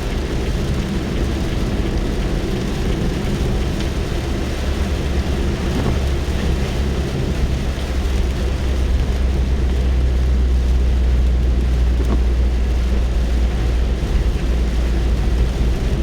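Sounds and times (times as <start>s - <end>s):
low rumble from car: 0.0s - 16.0s
rain pattering on a car: 0.0s - 16.0s.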